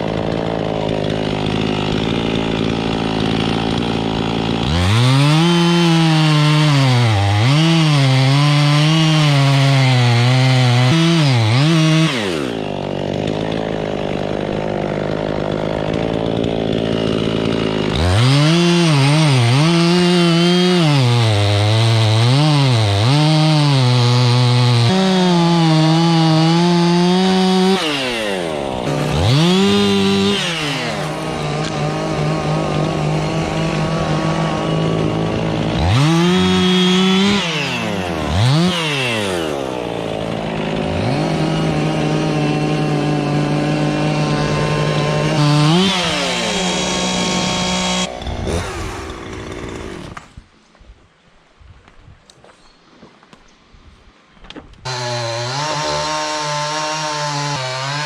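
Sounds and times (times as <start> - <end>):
chainsaw cutting wood: 0.0 - 50.5, 54.5 - 58.0.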